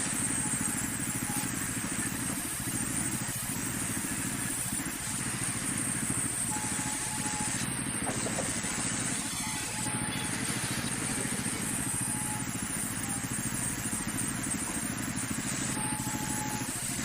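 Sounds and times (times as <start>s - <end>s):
sawmill engine throbbing: 0.0s - 17.0s.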